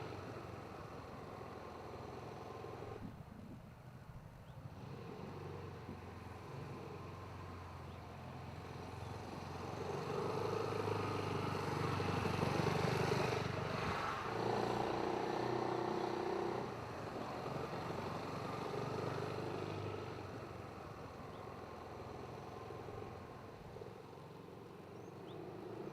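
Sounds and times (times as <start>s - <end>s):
scooter engine passing by: 4.7s - 25.9s.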